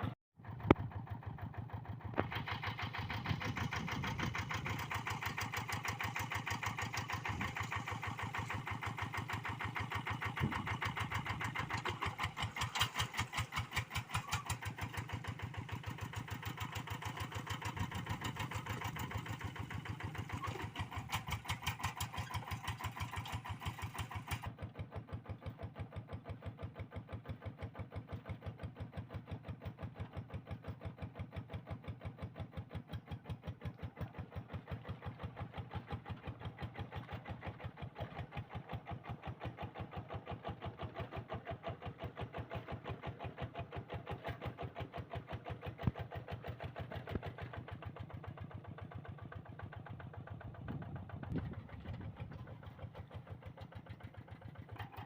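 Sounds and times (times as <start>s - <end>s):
diesel engine running: 0.0s - 24.5s, 34.0s - 55.0s.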